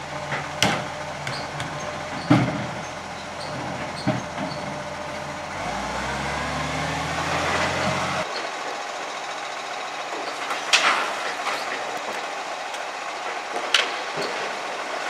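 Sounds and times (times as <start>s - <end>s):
climbing whine: 0.0s - 15.0s
garbage truck diesel engine: 0.0s - 15.0s.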